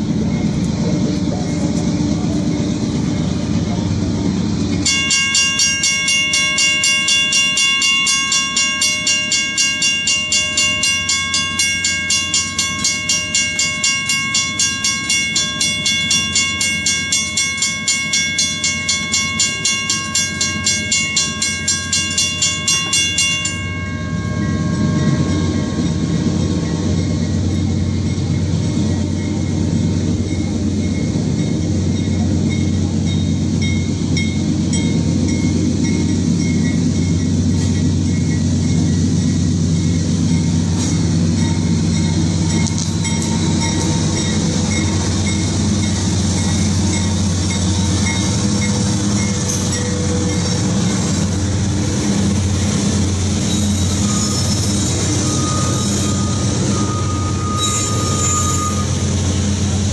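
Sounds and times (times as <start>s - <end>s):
diesel locomotive rumble: 0.0s - 59.9s
railroad crossing bell ringing: 0.0s - 59.9s.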